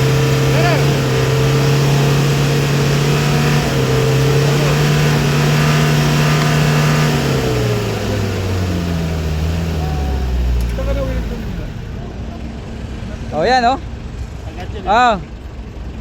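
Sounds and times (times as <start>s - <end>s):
diesel van engine revving: 0.0s - 16.0s.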